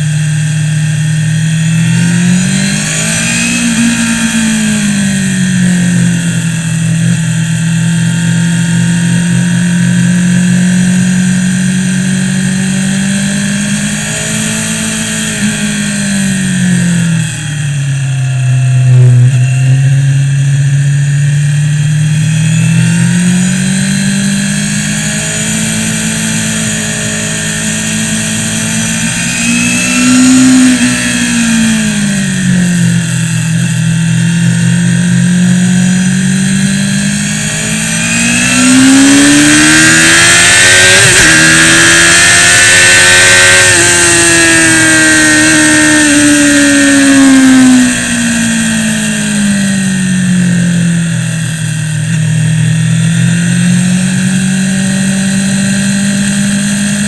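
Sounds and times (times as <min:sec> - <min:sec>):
sport bike engine revving: 0:00.0 - 0:57.0.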